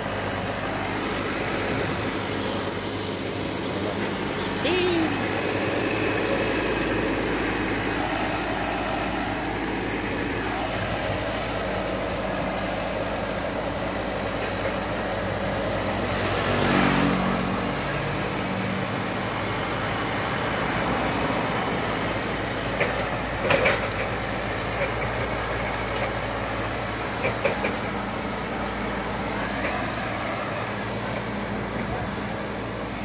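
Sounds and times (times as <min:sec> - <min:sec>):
forklift engine running: 0:00.0 - 0:33.0
road noise: 0:00.0 - 0:33.0
wind: 0:00.0 - 0:33.0.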